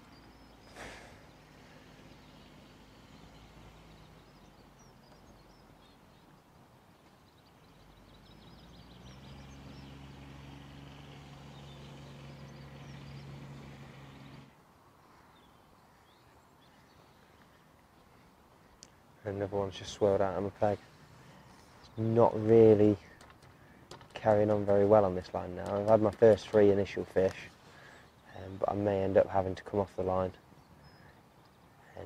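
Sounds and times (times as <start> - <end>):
outdoor background noise: 0.0 - 32.0
small birds chirping: 0.0 - 32.0.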